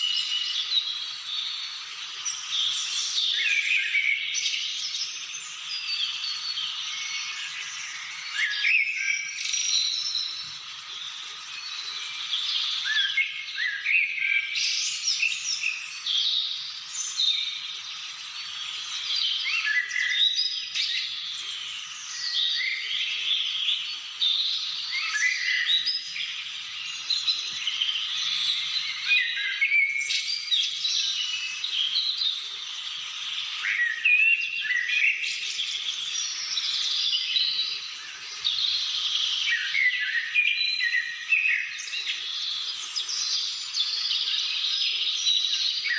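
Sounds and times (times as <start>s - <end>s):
birds chirping and calling: 0.0s - 45.9s.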